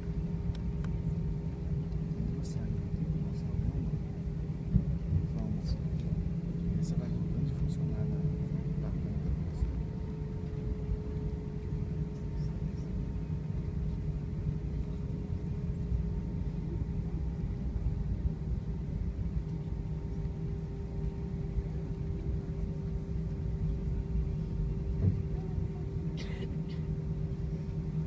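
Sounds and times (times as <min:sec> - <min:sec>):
airplane cabin rumble: 0:00.0 - 0:28.0
constant hum: 0:00.0 - 0:28.0.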